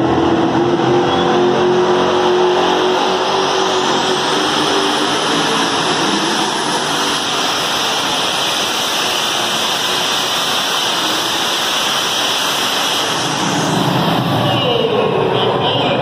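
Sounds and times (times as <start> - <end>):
turbine tractor rushing roar: 0.0 - 16.0.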